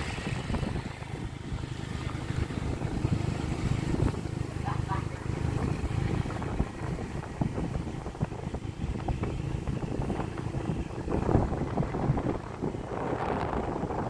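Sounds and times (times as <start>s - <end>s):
vehicle rumbling: 0.0s - 14.0s
wind buffeting microphone: 0.0s - 14.0s.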